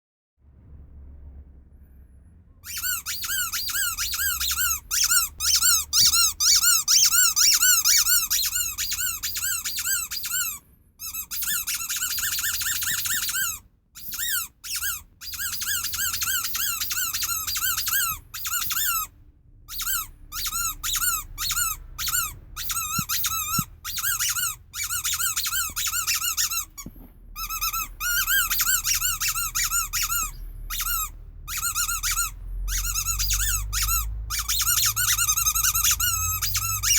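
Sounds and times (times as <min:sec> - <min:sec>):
rubber squeaky toy squeaking: 0:02.6 - 0:36.9.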